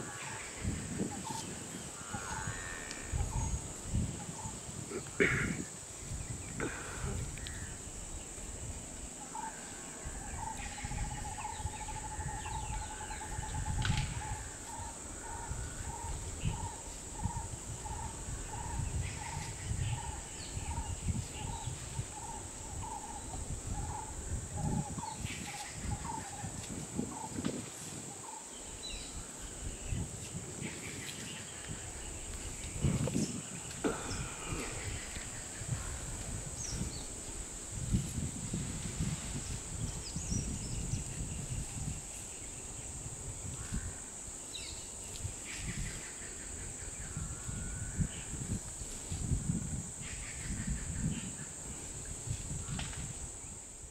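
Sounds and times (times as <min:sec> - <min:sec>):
high insect drone: 0:00.0 - 0:53.9.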